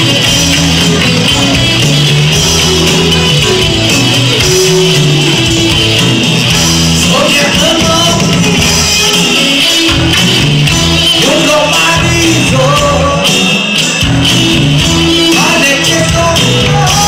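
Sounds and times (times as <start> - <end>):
electric bass guitar steady notes: 0.0 - 17.0
live pop band playing: 0.0 - 17.0.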